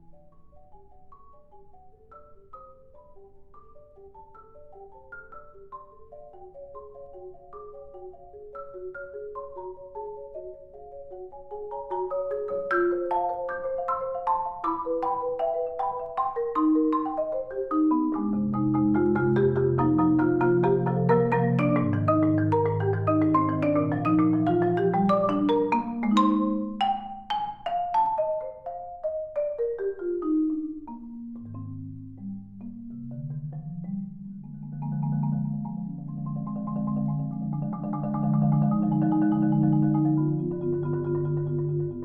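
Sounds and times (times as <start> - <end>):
solo marimba playing: 0.0 - 42.0.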